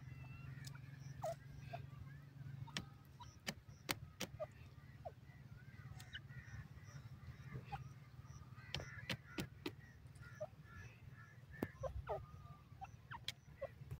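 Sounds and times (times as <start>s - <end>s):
steady low rumble: 0.0s - 14.0s
bird giving short sharp calls: 2.6s - 14.0s.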